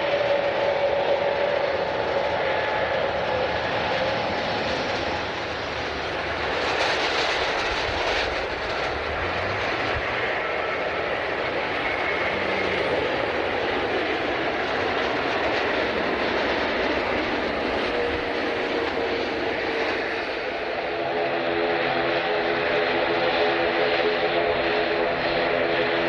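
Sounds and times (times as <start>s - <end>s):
airliner engine noise: 0.0s - 26.0s.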